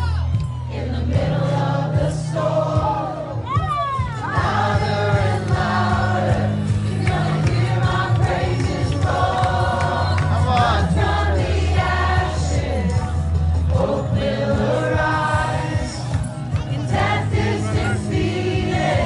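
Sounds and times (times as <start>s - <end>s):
worship music through speakers: 0.0s - 19.0s
crowd singing along: 0.4s - 19.0s.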